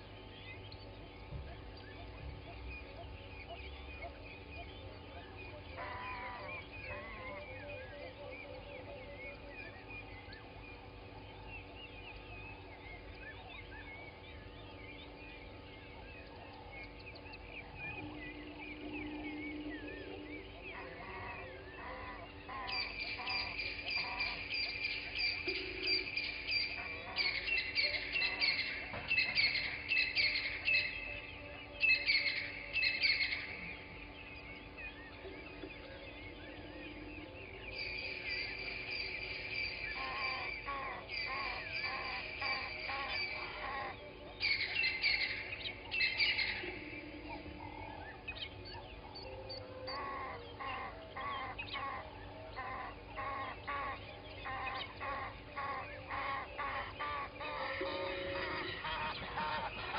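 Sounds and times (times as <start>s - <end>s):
birds chirping and trilling: 0.0s - 59.9s
lower repeated bird notes: 0.0s - 59.9s.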